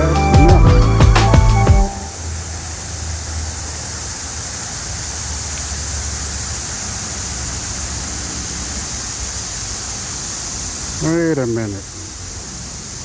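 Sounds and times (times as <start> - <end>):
creek water flowing: 1.9 - 13.0.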